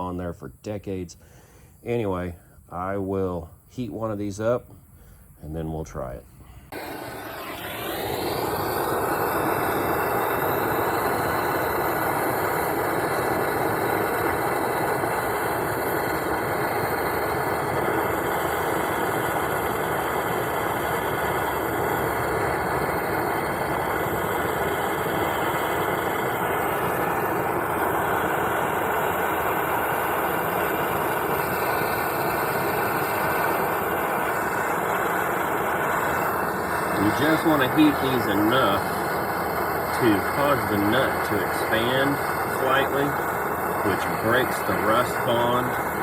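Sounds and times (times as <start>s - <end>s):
cutting torch flame rushing: 6.7s - 46.0s.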